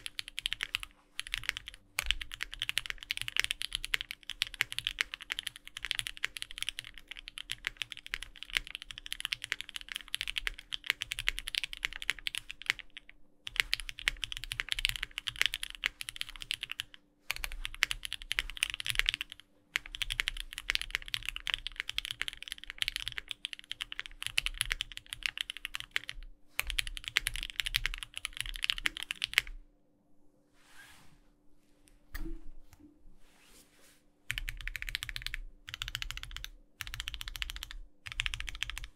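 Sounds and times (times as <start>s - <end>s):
mechanical keyboard typing: 0.0s - 29.6s, 34.3s - 38.9s.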